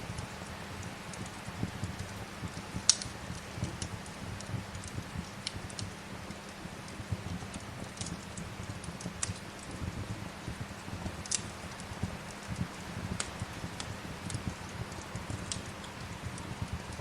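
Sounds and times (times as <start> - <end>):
rain hiss: 0.0 - 17.0
wood fire crackling and popping: 0.0 - 17.0.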